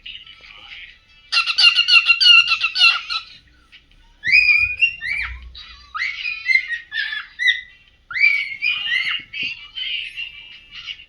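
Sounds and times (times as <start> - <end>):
cockatiel chirping: 0.1 - 11.0
cockatiel whistling: 1.3 - 11.0.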